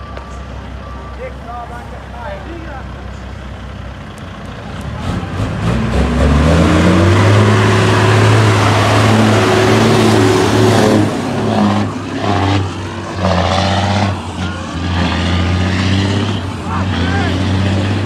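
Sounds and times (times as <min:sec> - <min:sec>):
truck diesel engine passing: 0:00.0 - 0:18.0.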